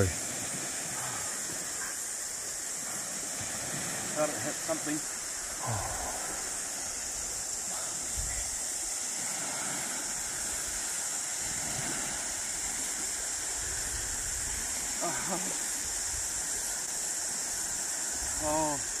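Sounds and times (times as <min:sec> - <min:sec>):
small waves washing on sand: 0:00.0 - 0:19.0.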